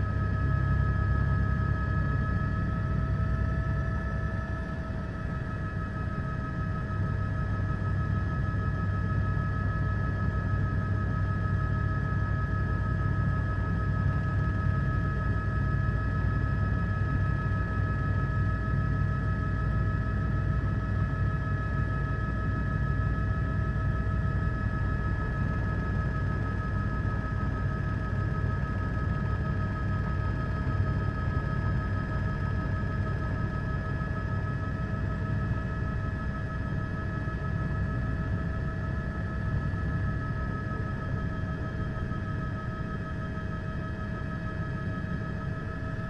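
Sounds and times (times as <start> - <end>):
helicopter engine and rotors droning: 0.0 - 46.0.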